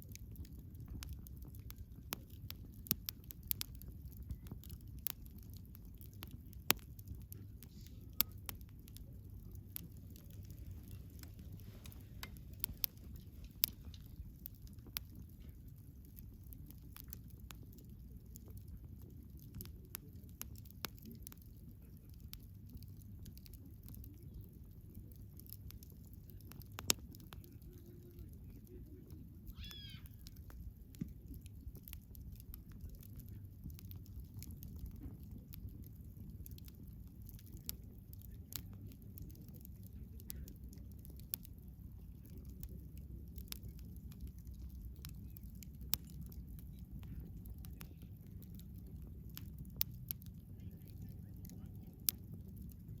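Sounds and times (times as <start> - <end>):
campfire crackling: 0.0 - 53.0
fire popping: 0.0 - 53.0.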